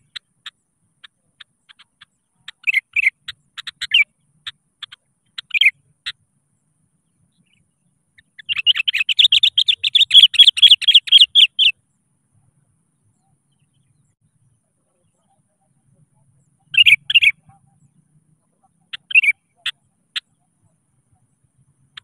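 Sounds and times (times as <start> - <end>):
bulbul calling: 0.0 - 11.9, 13.0 - 22.0.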